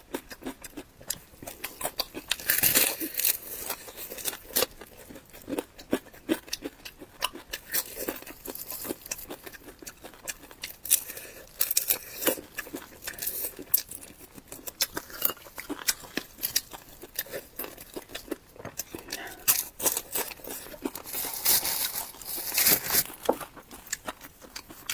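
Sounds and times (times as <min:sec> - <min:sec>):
chewing and biting: 0:00.0 - 0:24.9.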